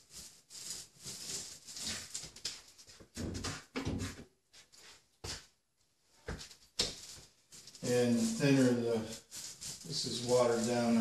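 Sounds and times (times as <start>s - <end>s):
paint roller swishing on wall: 0.0s - 5.5s, 6.3s - 11.0s.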